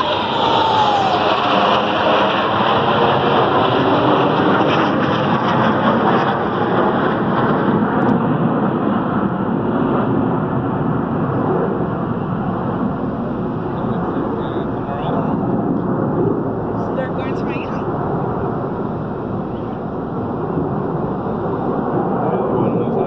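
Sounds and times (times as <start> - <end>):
jet engines roaring overhead: 0.0 - 23.0.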